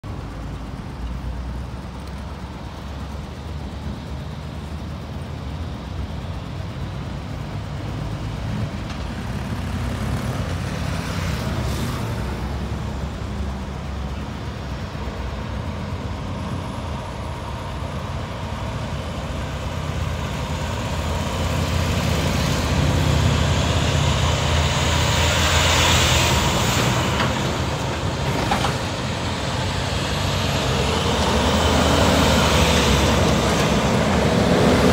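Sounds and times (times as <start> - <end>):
road noise: 0.0 - 34.9
trucks approaching: 0.0 - 34.9
vehicle engines idling and passing: 0.0 - 34.9.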